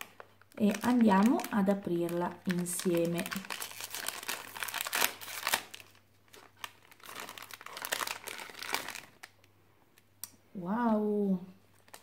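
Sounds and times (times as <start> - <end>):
plastic packet crinkling: 0.0 - 9.5, 11.7 - 12.0.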